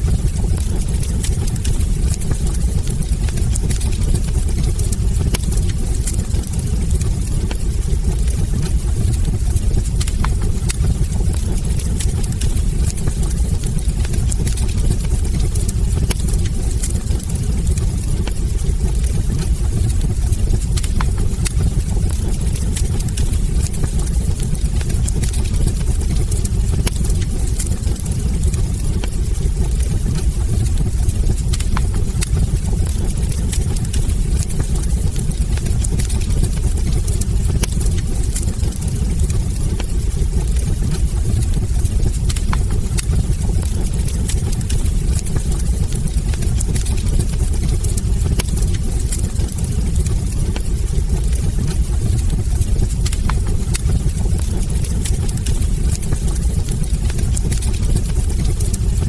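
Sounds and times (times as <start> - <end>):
logs crackling and popping: 0.0 - 59.0
low rumble of flames: 0.0 - 59.0.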